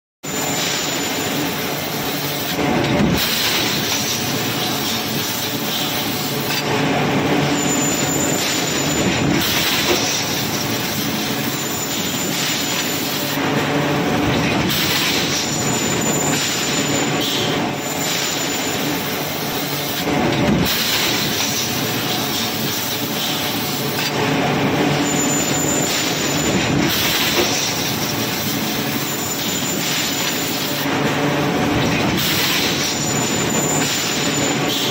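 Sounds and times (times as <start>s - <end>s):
forging press mechanical din: 2.2s - 34.9s.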